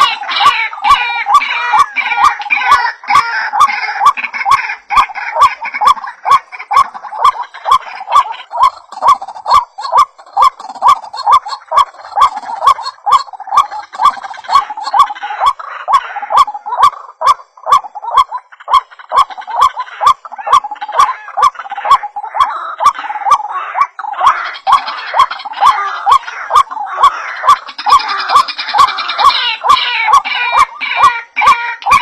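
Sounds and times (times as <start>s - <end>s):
waterhen calls: 0.0s - 32.0s.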